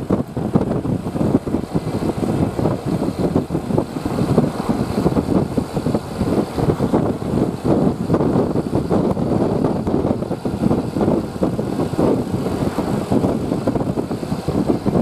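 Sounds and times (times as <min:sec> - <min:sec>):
vehicle engine rough rumble: 0:00.0 - 0:15.0.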